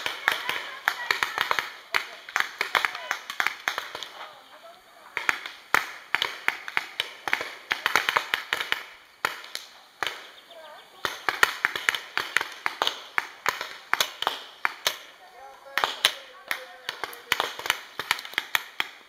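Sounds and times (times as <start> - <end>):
paintball markers firing: 0.0 - 4.2, 5.2 - 19.0
faint voices: 0.0 - 18.3.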